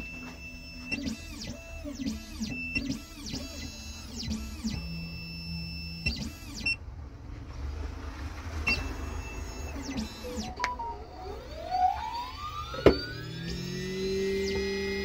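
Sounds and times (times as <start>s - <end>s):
key cutting machine motors whining: 0.0s - 6.8s, 8.7s - 15.0s
low machine hum: 0.0s - 15.0s.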